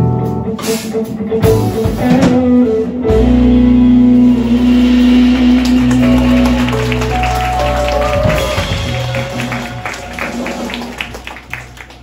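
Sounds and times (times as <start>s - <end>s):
live band playing: 0.0s - 12.0s
drum and cymbal hits: 0.6s - 11.5s.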